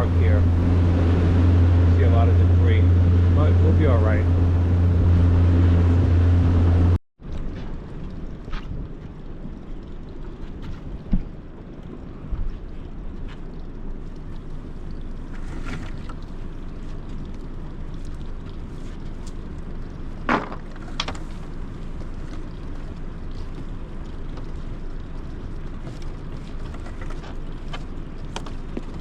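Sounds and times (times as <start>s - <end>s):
motorboat engine and water rush: 0.0s - 29.0s.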